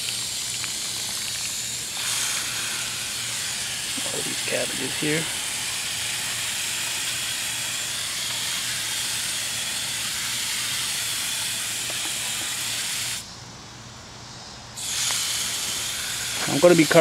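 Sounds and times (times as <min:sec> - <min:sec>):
water spraying from hose onto soil: 0:00.0 - 0:13.2, 0:14.8 - 0:17.0.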